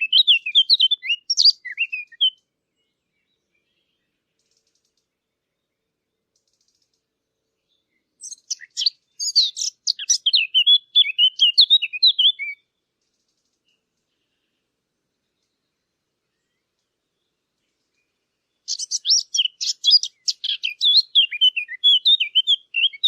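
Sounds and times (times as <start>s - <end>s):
warbler singing: 0.0s - 23.0s.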